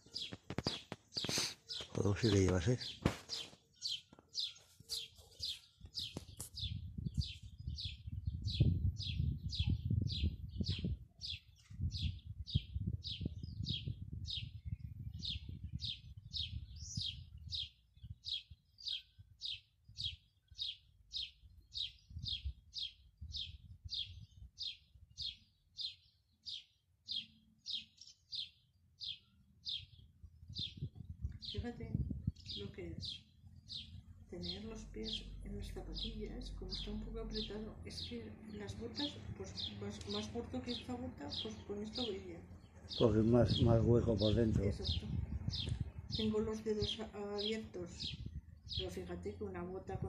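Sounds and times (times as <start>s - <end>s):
small bird chirping: 0.0s - 50.0s.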